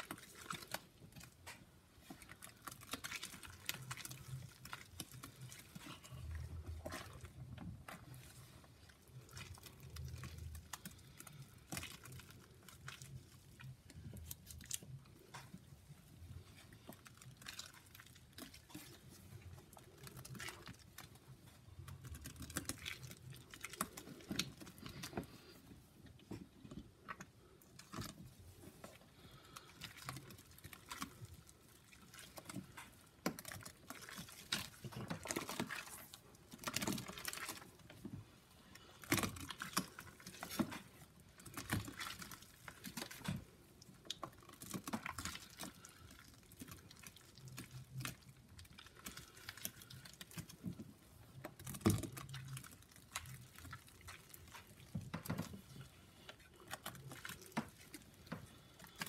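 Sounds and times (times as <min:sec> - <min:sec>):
hands squishing wet paste: 0:00.0 - 0:59.0.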